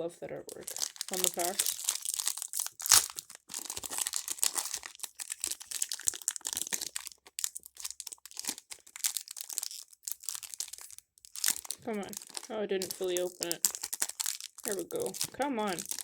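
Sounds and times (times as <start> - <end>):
foil wrapper crinkling and tearing: 0.5 - 16.0.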